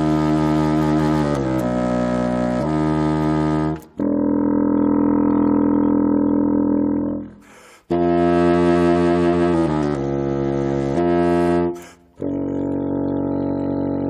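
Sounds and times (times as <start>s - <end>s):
contrabassoon playing low notes: 0.0s - 14.0s.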